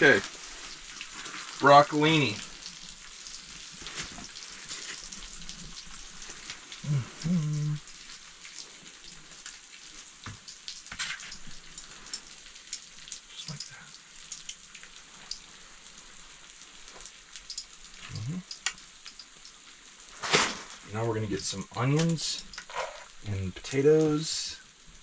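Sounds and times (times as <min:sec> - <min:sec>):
vegetables sizzling in a pan: 0:00.0 - 0:23.6
small clicks and crackles: 0:02.4 - 0:20.9, 0:21.9 - 0:23.4.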